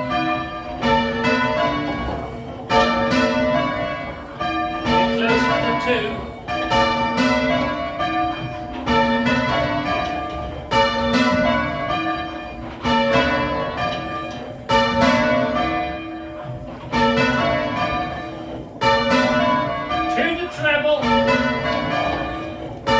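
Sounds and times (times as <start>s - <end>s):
church bells change ringing: 0.0s - 22.9s.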